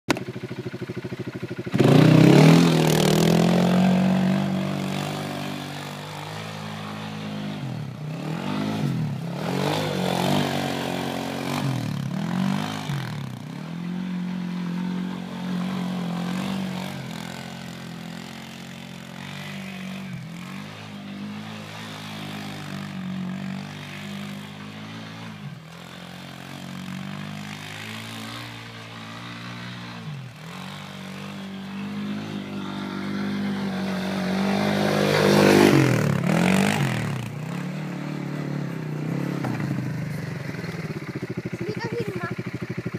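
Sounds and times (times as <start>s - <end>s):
atv engine revving: 0.1s - 42.9s.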